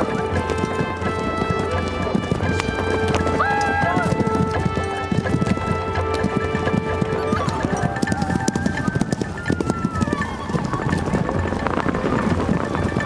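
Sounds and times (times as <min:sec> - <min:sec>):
background music with held notes: 0:00.0 - 0:13.0
horses galloping hoofbeats: 0:00.0 - 0:13.0.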